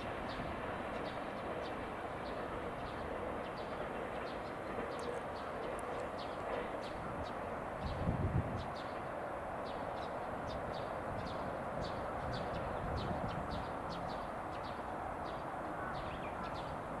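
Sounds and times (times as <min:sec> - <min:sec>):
distant electric train rumble: 0:00.0 - 0:17.0
small birds chirping: 0:00.3 - 0:16.9.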